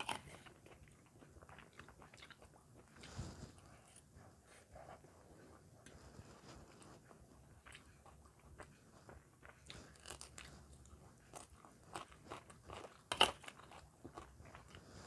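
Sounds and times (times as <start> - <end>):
chewing and crunching food: 0.0 - 15.0.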